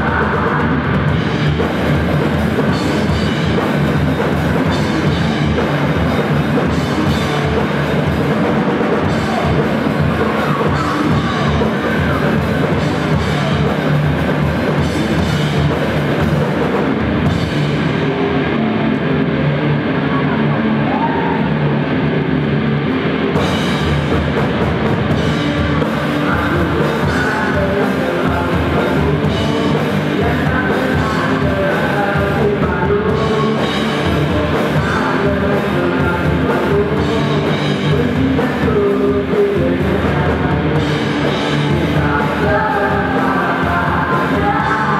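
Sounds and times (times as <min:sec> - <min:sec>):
drum kit: 0:00.0 - 0:20.0, 0:22.4 - 0:44.9
bass guitar: 0:00.0 - 0:44.9
electric guitars: 0:00.0 - 0:44.9.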